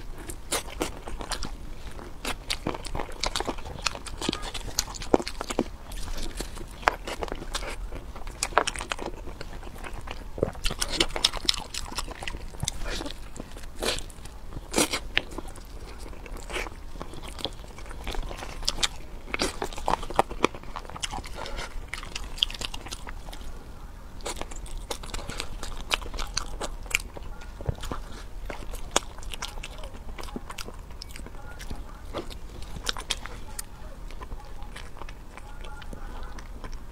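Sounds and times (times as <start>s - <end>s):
person chewing food: 0.0s - 36.9s.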